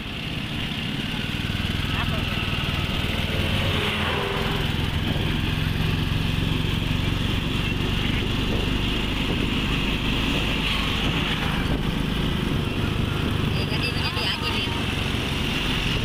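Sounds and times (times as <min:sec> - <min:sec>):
vehicle engine running: 0:00.0 - 0:16.0
wind and road noise: 0:00.0 - 0:16.0.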